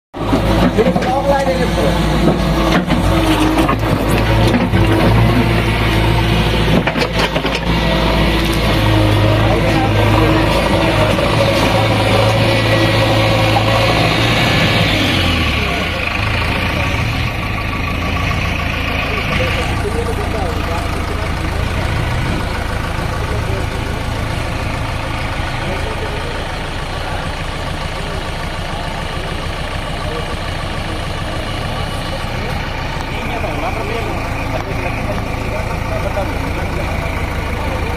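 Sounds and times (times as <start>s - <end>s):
diesel engine running: 0.2s - 37.9s.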